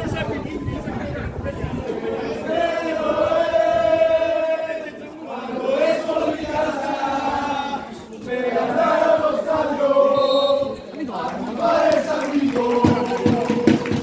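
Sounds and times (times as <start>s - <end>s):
football supporters chanting: 1.6s - 14.0s.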